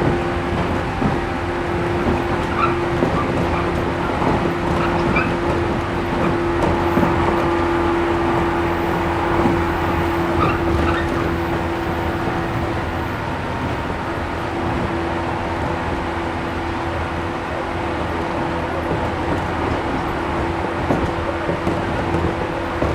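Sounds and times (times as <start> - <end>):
steady train hum: 0.0 - 22.9
train wheel and track rumble: 0.0 - 22.9.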